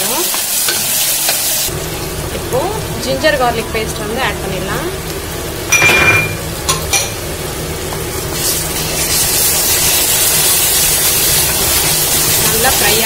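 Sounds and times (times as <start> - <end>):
onions sizzling in hot oil: 0.0 - 13.0
steady low hum: 1.7 - 12.7.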